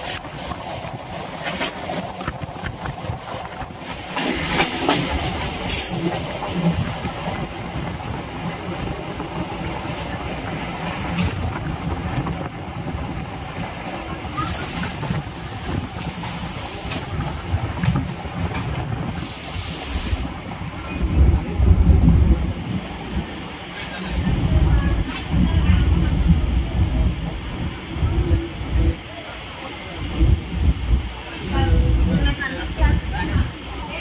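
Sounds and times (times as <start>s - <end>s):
train wheels rumbling: 0.0s - 34.0s.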